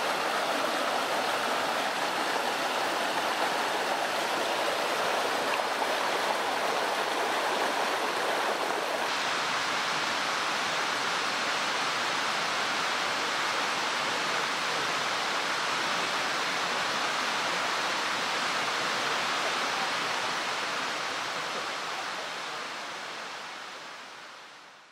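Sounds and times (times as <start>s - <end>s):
mountain stream rushing: 0.0s - 24.9s.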